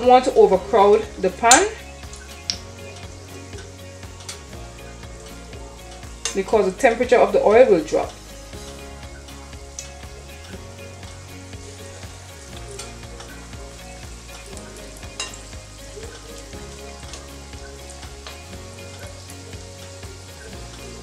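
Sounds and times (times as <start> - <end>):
batter frying in oil: 0.0 - 21.0.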